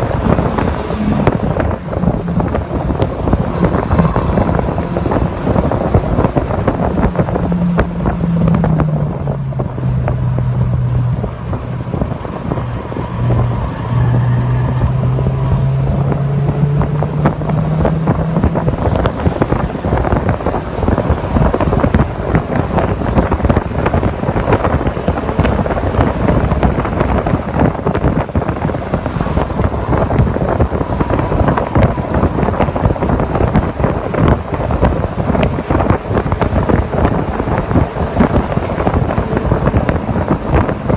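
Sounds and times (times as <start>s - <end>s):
car engine: 0.0s - 40.9s
wind buffeting microphone: 0.0s - 40.9s.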